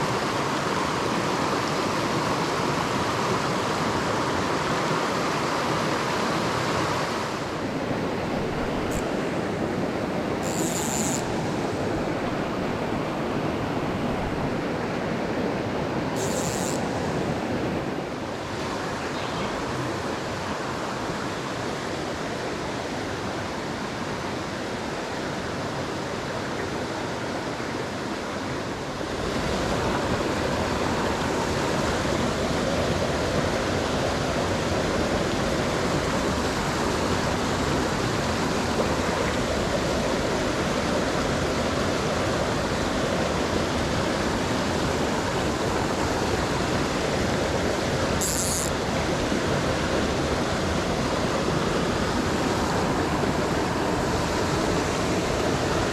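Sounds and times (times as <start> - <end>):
stream rushing over rocks: 0.0 - 10.4, 11.2 - 16.2, 16.8 - 55.9.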